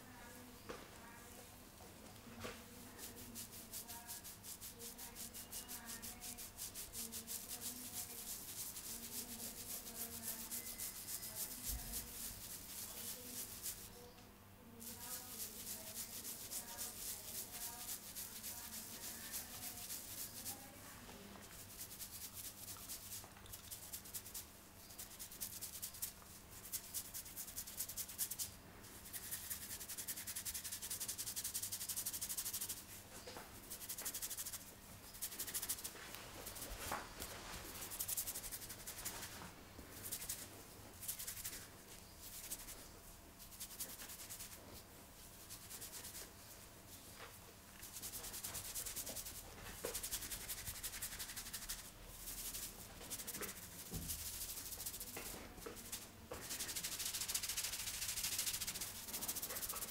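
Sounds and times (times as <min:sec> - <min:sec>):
fingers rubbing hair and scalp: 0:02.4 - 0:14.0, 0:14.8 - 0:33.0, 0:33.6 - 0:47.1, 0:47.8 - 0:59.9.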